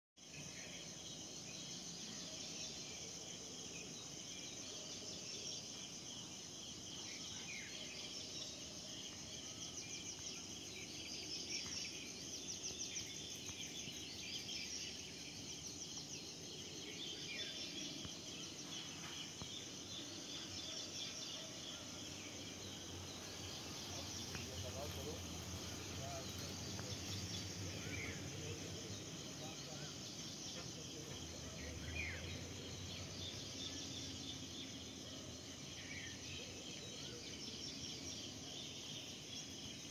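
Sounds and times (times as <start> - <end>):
faint low background noise: 0.2 - 39.9
high insect trill: 0.2 - 39.9.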